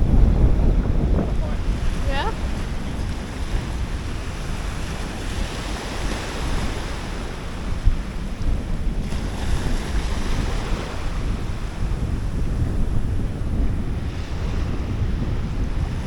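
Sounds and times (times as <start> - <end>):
surf rushing: 0.0 - 16.0
wind buffeting microphone: 0.0 - 16.0.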